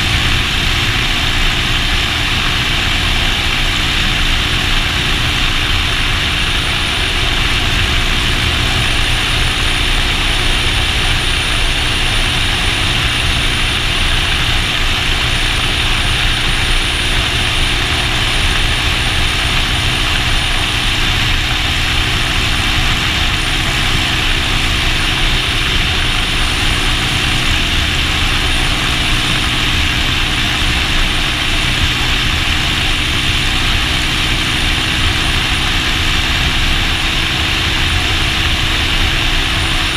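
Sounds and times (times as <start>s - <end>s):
loud rush of noise: 0.0s - 39.9s
motorcycle engine cruising: 0.0s - 39.9s.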